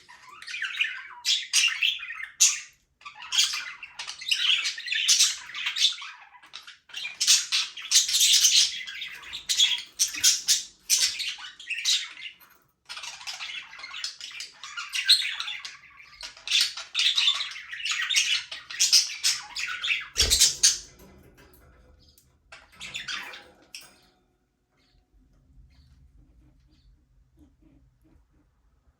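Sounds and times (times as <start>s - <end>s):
budgerigars chattering and squawking: 0.0s - 24.1s, 24.8s - 28.3s.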